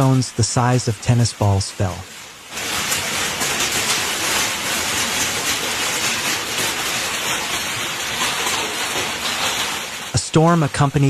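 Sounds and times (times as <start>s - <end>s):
hail and heavy rain: 0.0s - 11.0s.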